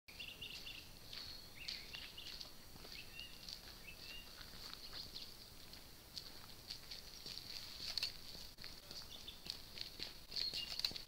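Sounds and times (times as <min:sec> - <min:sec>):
small birds chirping: 0:00.1 - 0:11.0
light rustling: 0:01.1 - 0:11.0.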